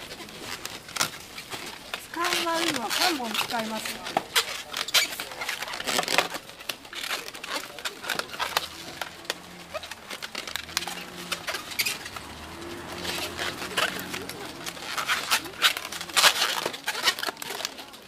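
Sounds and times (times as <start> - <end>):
balloons squeaking and rubbing: 0.0 - 18.0.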